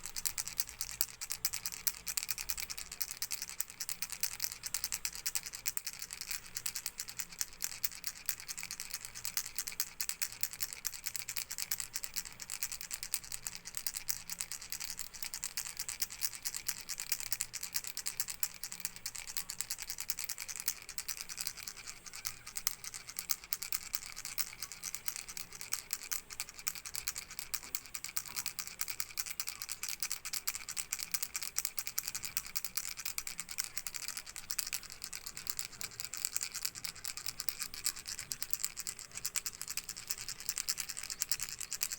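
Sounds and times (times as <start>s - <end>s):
baby rattle shaken: 0.0s - 41.9s.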